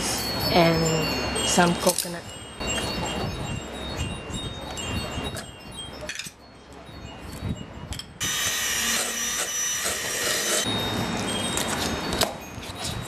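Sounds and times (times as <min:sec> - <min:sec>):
faint high ringing tones: 0:00.0 - 0:13.0.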